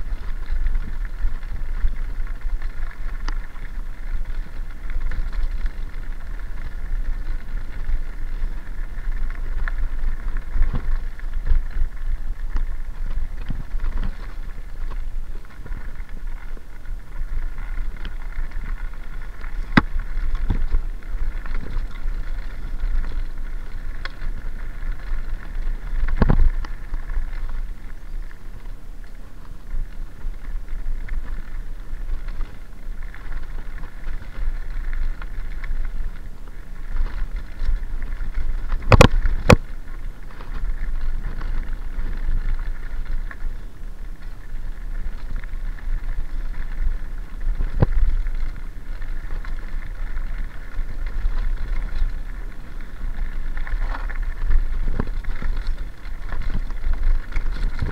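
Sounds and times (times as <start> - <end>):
bike knocking on bumps: 0.0 - 57.9
bike tyres crunching on gravel: 0.0 - 57.9
wind rumble on microphone: 0.0 - 57.9.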